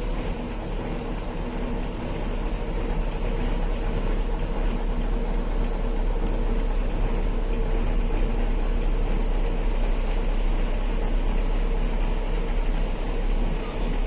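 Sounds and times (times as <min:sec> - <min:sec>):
heavy truck engine rumble: 0:00.0 - 0:14.0
road noise: 0:00.0 - 0:14.0.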